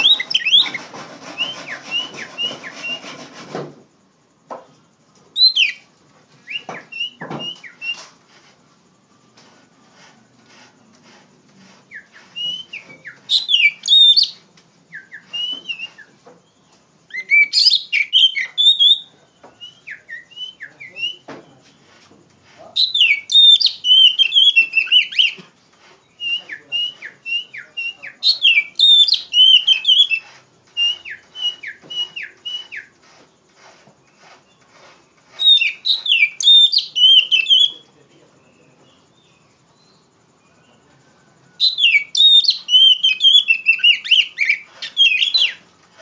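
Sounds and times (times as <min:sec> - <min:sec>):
songbird whistling song: 0:00.0 - 0:03.1, 0:05.3 - 0:08.2, 0:10.8 - 0:22.0, 0:22.6 - 0:33.1, 0:34.0 - 0:46.0.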